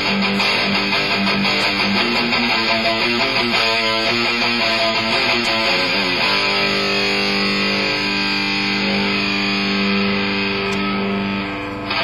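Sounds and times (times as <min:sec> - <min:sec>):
electric guitar chord ringing: 0:00.0 - 0:12.0.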